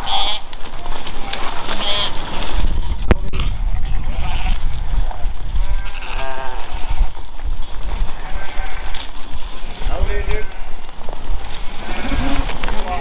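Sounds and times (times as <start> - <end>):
sheep bleating: 0.0 - 2.6, 3.2 - 7.2, 8.0 - 13.0.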